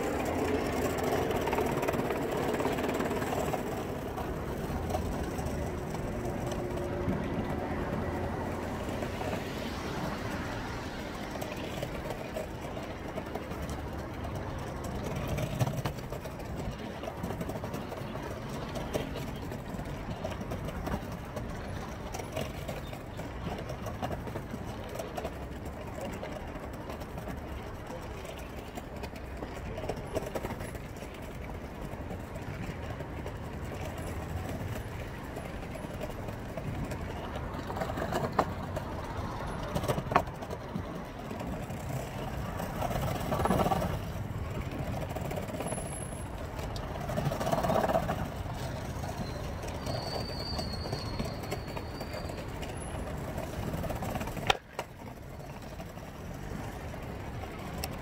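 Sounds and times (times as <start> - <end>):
skateboard wheels rolling on tiles: 0.0 - 58.0.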